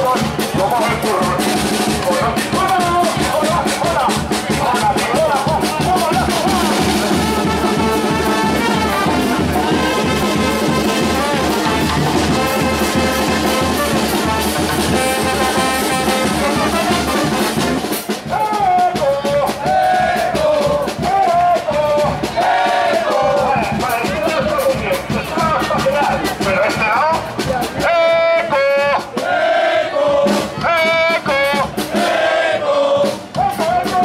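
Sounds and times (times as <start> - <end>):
bass drum beat: 0.0 - 29.3, 30.0 - 34.0
brass street band playing: 0.0 - 34.0
snare drum: 0.0 - 34.0.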